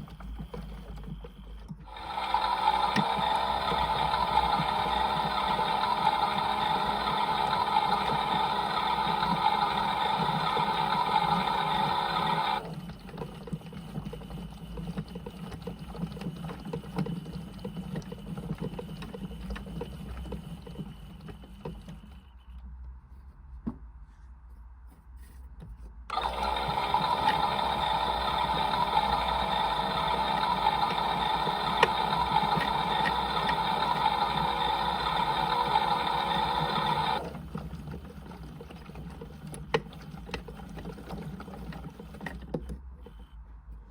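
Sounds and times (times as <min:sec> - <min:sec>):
toy washing machine motor running: 0:00.0 - 0:22.3, 0:26.1 - 0:42.7.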